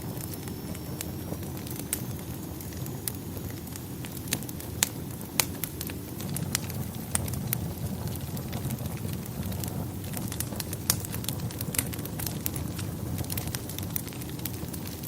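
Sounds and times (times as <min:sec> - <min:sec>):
steady low rumble: 0:00.0 - 0:15.0
wood fire crackling: 0:00.0 - 0:15.0.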